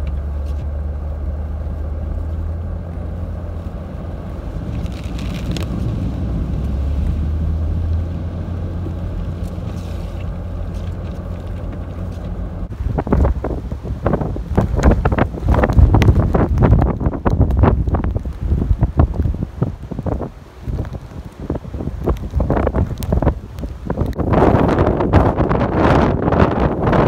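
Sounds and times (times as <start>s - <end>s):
gusty wind buffeting microphone: 0.0s - 27.0s
low rumble: 0.0s - 27.0s.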